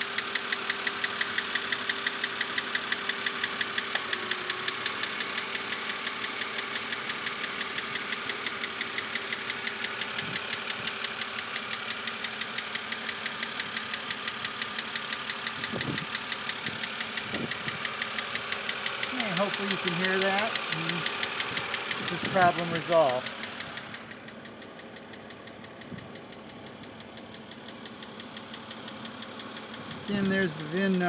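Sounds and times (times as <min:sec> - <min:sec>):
car engine running: 0:00.0 - 0:31.0
rapid engine knock: 0:00.0 - 0:31.0.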